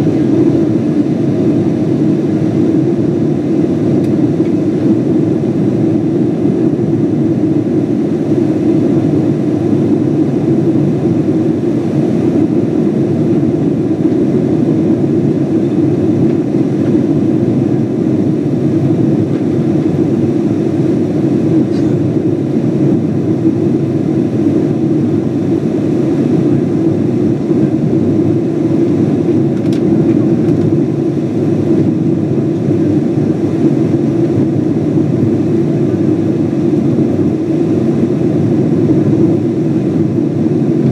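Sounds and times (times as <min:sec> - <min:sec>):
airplane cabin roar: 0:00.0 - 0:40.9.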